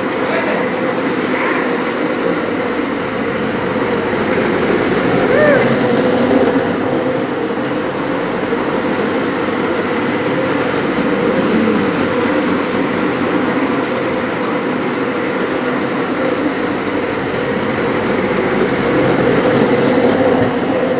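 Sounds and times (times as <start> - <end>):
bumper car motor hum: 0.0 - 20.9.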